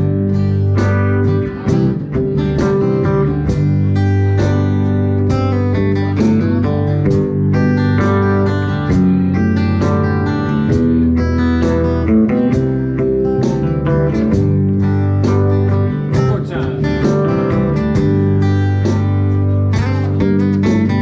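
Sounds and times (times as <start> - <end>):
acoustic guitar strumming: 0.0 - 21.0
electric guitar playing: 0.0 - 21.0.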